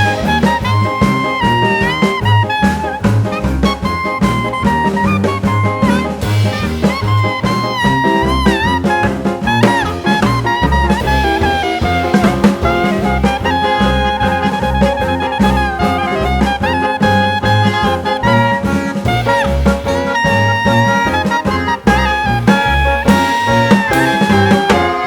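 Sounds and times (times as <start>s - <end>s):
jazz music with brass: 0.0s - 25.0s.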